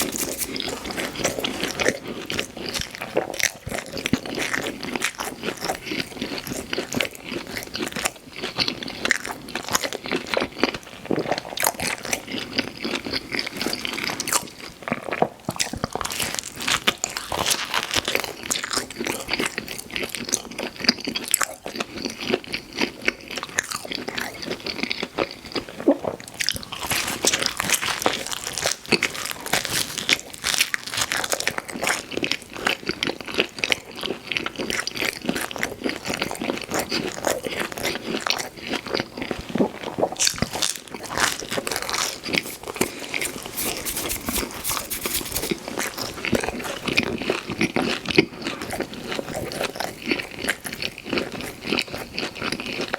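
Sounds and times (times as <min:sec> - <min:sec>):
person chewing pizza: 0:00.0 - 0:52.9.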